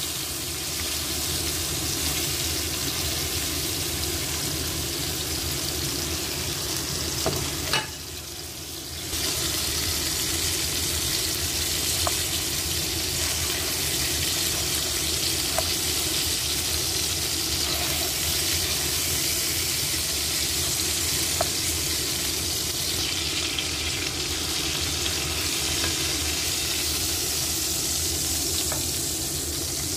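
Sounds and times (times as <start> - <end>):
meat sizzling in a frying pan: 0.0 - 29.9.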